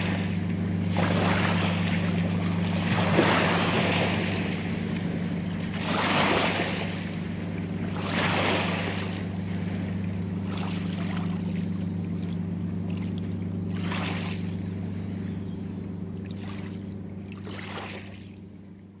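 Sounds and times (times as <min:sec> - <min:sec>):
boat engine drone: 0:00.0 - 0:19.0
water lapping and splashing: 0:00.0 - 0:19.0.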